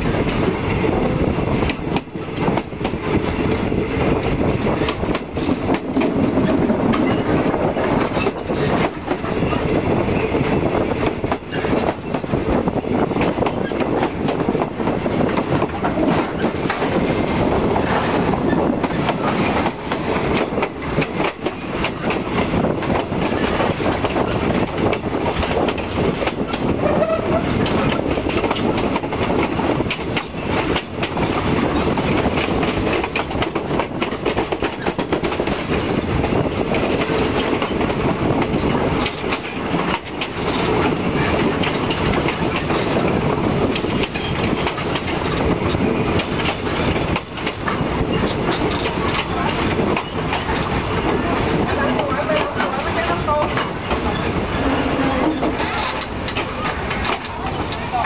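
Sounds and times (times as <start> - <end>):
train wheels clattering over rail joints: 0.0 - 58.0.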